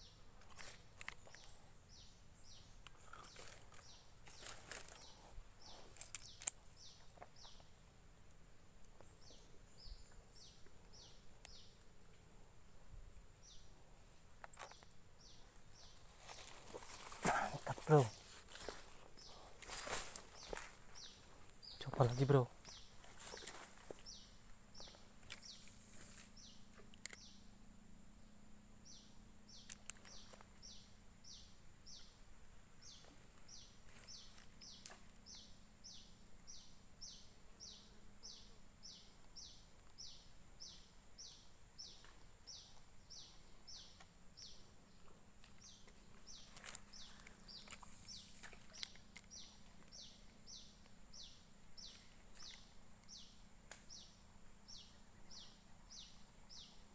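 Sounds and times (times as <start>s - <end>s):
thin steady high buzz: 0.0s - 56.9s.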